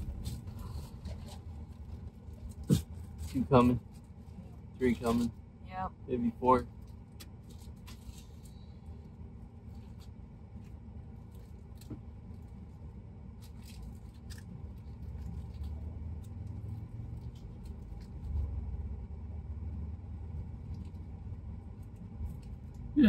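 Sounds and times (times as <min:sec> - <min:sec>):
faint clicks and rustles: 0:00.0 - 0:05.5, 0:06.6 - 0:18.8, 0:20.3 - 0:22.9
road and engine rumble: 0:00.0 - 0:23.0.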